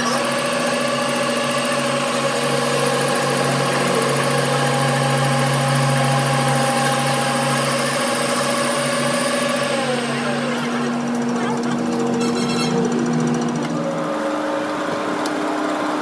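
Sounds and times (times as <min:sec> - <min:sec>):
metal lathe humming and whining: 0:00.0 - 0:16.0.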